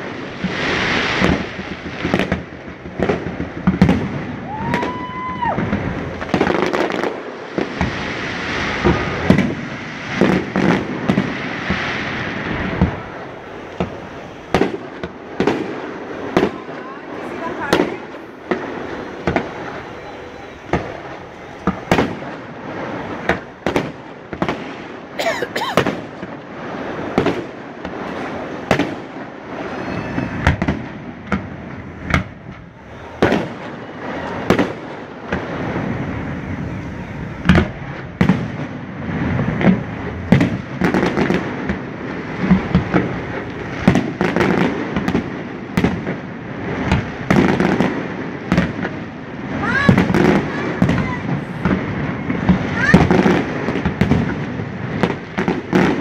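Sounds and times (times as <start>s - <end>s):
fireworks bursting with sharp bangs: 0.0s - 56.0s
fireworks crackling: 0.0s - 56.0s.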